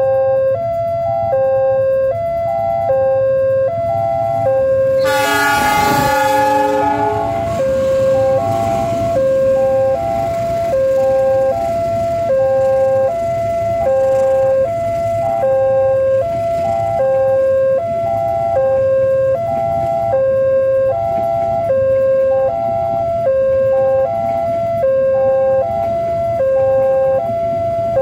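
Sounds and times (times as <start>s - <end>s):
level crossing alarm tone: 0.0s - 28.0s
passing train rumble: 3.6s - 22.0s, 22.7s - 28.0s.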